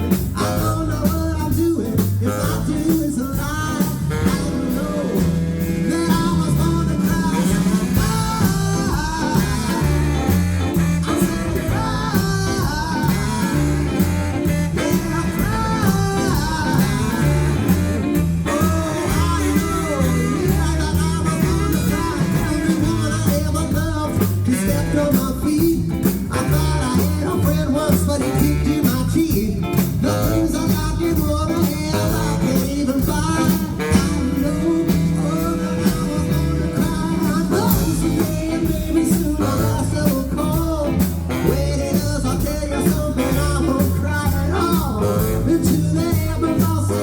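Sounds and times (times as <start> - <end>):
drums in a steady beat: 0.0 - 47.0
electric guitar: 0.0 - 47.0
walking bass line: 0.0 - 47.0.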